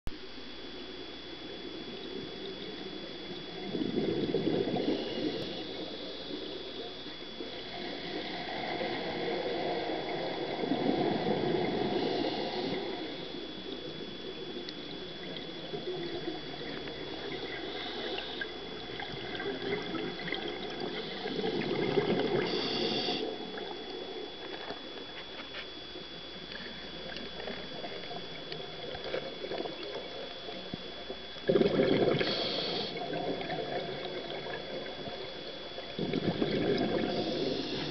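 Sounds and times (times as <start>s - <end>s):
underwater regulator bubbling: 2.2s - 25.4s, 26.3s - 37.9s.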